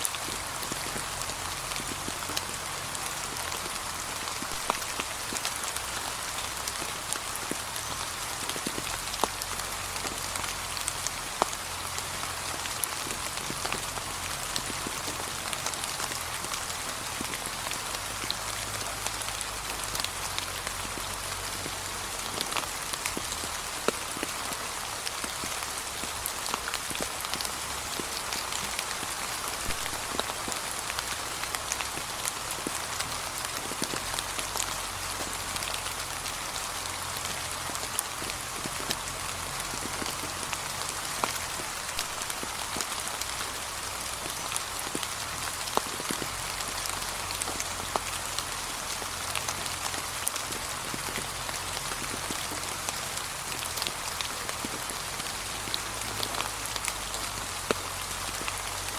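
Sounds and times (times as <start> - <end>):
light rain pattering: 0.0 - 58.9.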